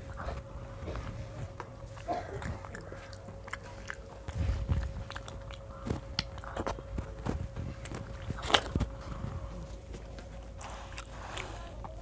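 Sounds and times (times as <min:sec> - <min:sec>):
child chewing and lip smacks: 0:00.0 - 0:12.0
faint steady hum: 0:00.0 - 0:12.0.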